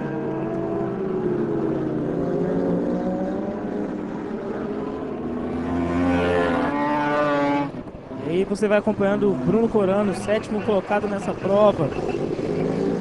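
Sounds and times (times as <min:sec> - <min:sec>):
superbike engines at high revs: 0:00.0 - 0:13.0.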